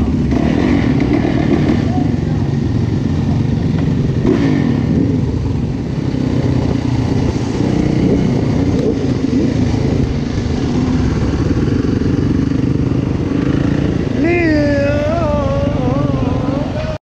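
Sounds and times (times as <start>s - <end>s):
dirt bike engine revving: 0.0s - 17.0s
quad and motorbike engines: 0.0s - 17.0s.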